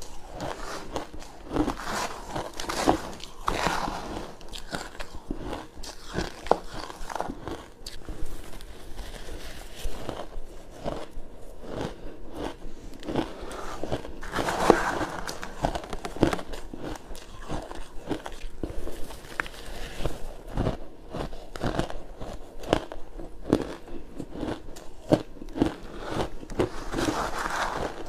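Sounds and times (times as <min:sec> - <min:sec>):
chewing crunchy ice: 0:00.0 - 0:28.0.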